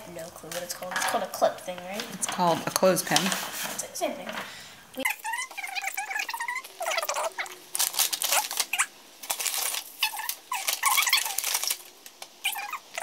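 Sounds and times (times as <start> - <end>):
plastic wrapping crinkling: 0.2 - 13.0.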